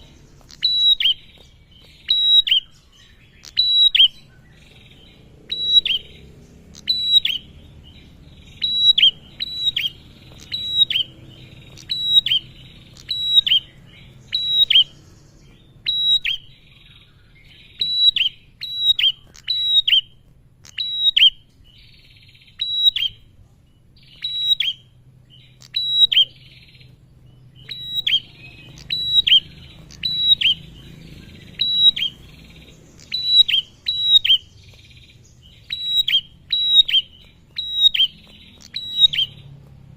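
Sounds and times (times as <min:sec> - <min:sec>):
bird singing sharp chirps: 0:00.0 - 0:39.9.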